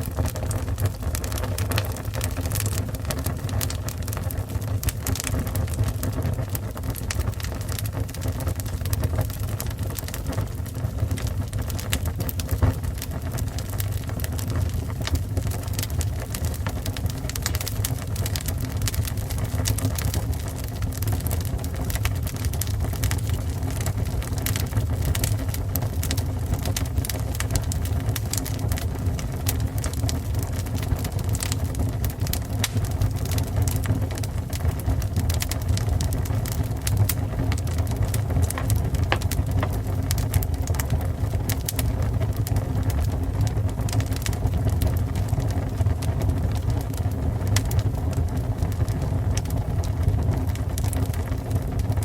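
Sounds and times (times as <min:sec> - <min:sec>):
fire crackling and popping: 0:00.0 - 0:52.0.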